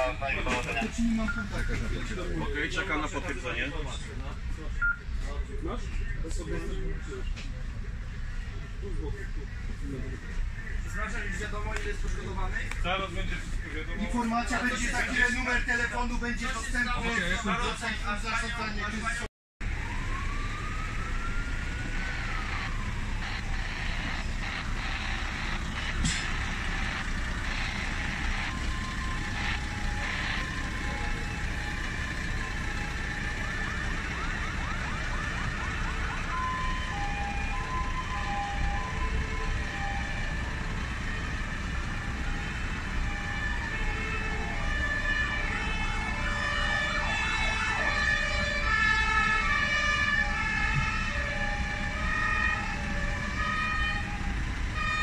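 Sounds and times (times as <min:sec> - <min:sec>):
emergency sirens wailing: 0:00.0 - 0:55.0.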